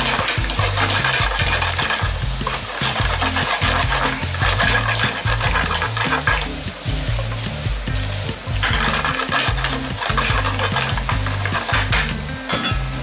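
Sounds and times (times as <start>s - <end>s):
rice sizzling in a frying pan: 0.0s - 13.0s
wooden spatula scraping a pan: 0.0s - 13.0s.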